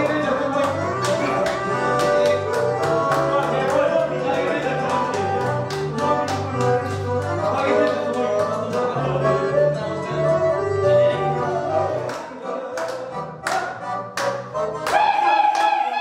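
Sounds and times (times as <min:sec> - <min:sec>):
hand claps: 0:00.0 - 0:09.0, 0:12.0 - 0:16.0
accordion playing a tune: 0:00.0 - 0:16.0.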